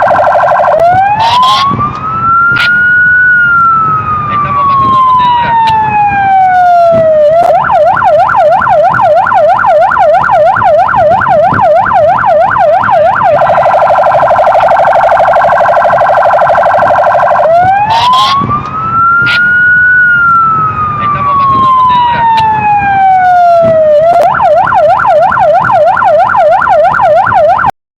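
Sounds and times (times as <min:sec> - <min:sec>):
police siren wailing and yelping: 0:00.0 - 0:27.8.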